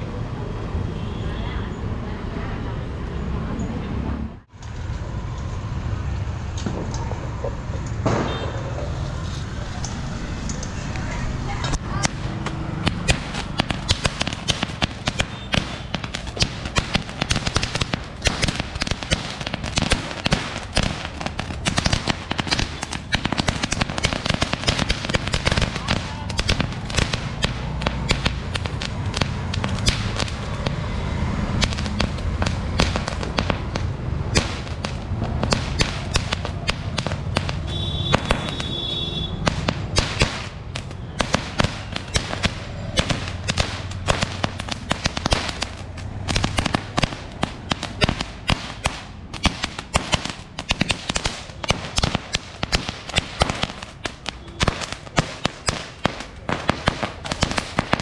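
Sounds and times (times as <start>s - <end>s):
firecrackers cracking and popping: 6.4s - 58.0s.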